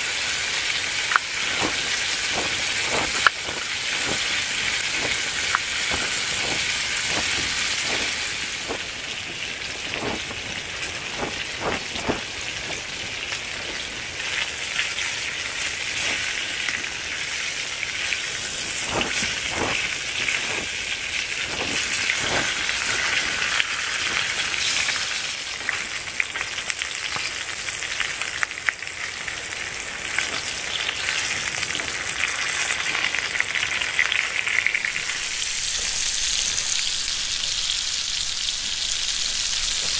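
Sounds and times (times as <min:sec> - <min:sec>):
food sizzling in a skillet: 0:00.0 - 0:39.9.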